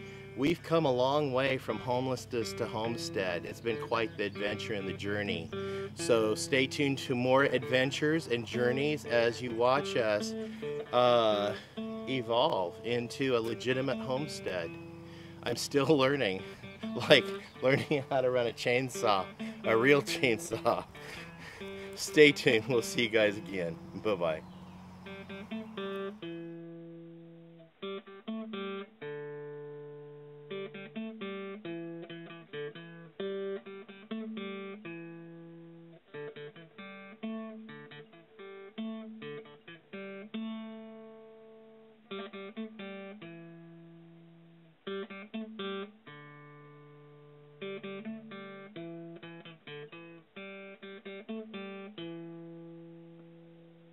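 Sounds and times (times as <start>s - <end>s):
solo guitar picked and strummed: 0.0s - 53.9s.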